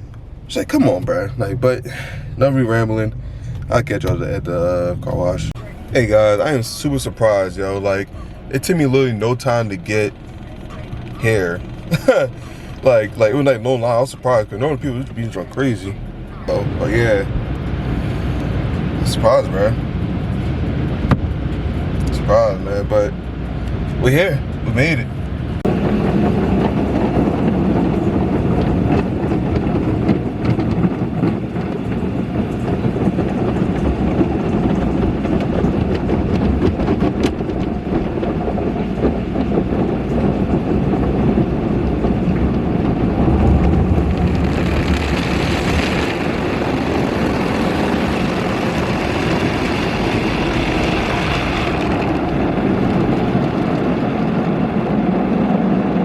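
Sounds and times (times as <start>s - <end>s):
car wash mechanical rumble: 0.0s - 56.0s.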